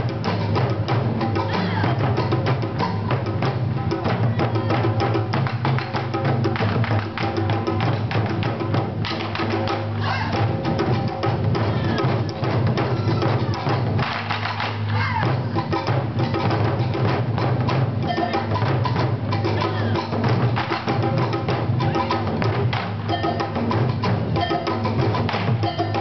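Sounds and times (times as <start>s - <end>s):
drum ensemble playing fast rhythm: 0.0s - 26.0s.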